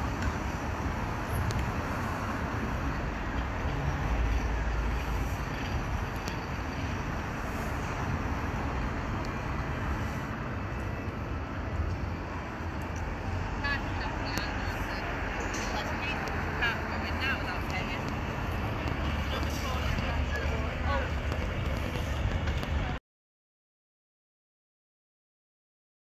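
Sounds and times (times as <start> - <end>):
road traffic rumble: 0.0 - 23.0
tram running on tracks: 0.0 - 23.0.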